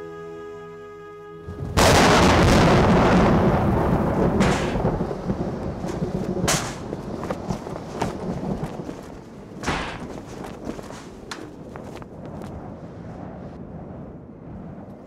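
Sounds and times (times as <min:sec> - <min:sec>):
thunder rumbling and cracking: 0:01.5 - 0:15.0
steady rain: 0:01.6 - 0:15.0.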